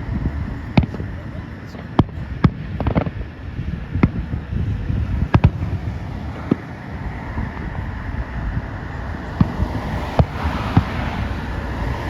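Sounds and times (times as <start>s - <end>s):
fireworks bangs: 0.0s - 12.0s
wind rumbling on microphone: 0.0s - 12.0s.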